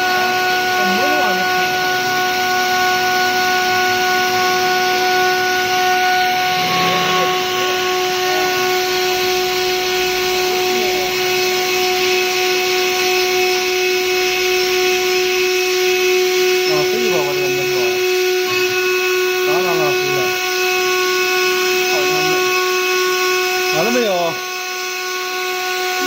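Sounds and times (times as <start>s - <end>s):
cnc router whine: 0.0s - 26.0s.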